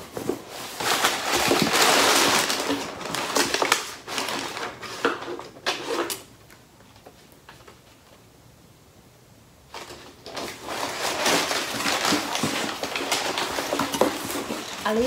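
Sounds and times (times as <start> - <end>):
packing paper crinkling: 0.0 - 8.2, 9.7 - 15.0.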